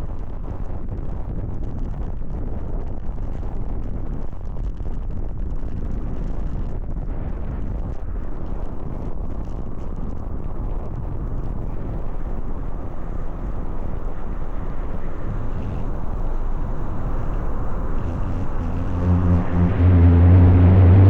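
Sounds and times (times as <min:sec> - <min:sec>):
low hum with overtones: 0:00.0 - 0:21.0
wind buffeting microphone: 0:00.0 - 0:21.0.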